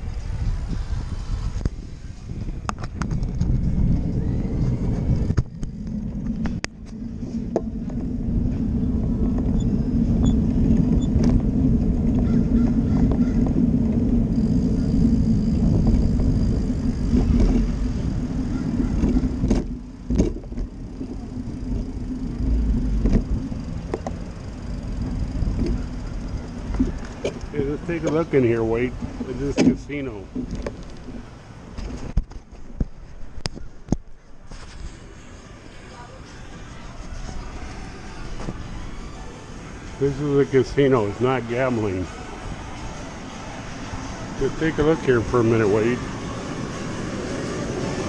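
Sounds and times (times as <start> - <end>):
rumble of riding on pavement: 0.0 - 48.0
steady low hum: 0.0 - 48.0
wind on microphone: 0.0 - 48.0.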